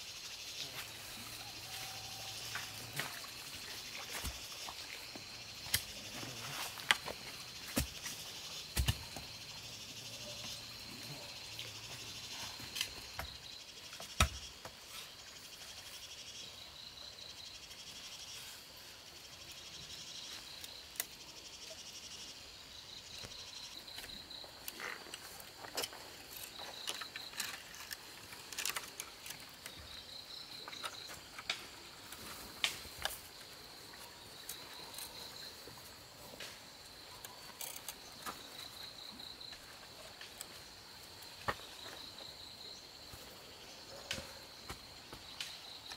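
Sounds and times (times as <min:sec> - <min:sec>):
high insect drone: 0:00.0 - 0:45.9
insects pulsed trills: 0:00.0 - 0:45.9.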